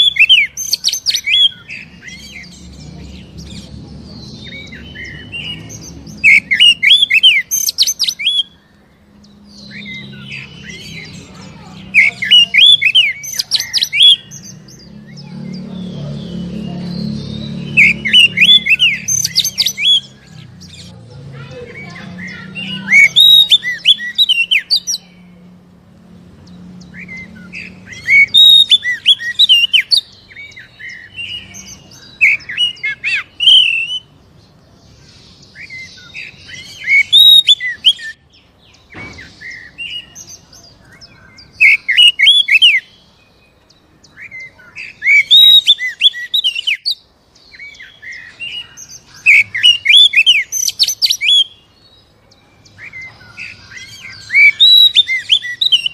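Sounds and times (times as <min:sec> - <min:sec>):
bird singing high warbling phrases: 0:00.0 - 0:55.9.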